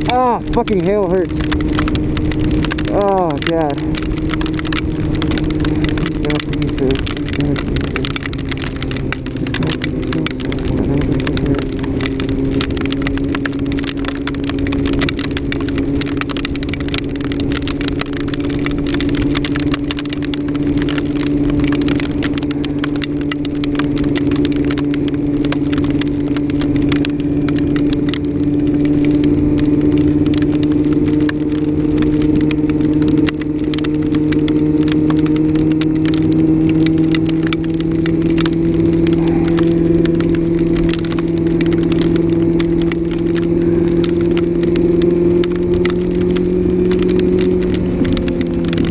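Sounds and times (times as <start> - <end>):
hail striking rider: 0.0 - 48.9
motorcycle engine running: 0.0 - 48.9.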